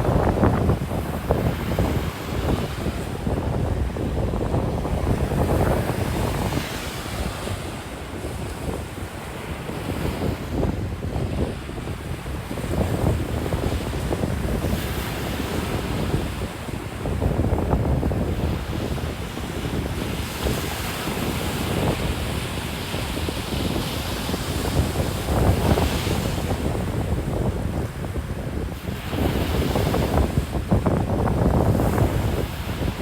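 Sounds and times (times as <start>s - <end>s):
ocean surf breaking on beach: 0.0s - 33.0s
wind buffeting microphone: 0.0s - 33.0s.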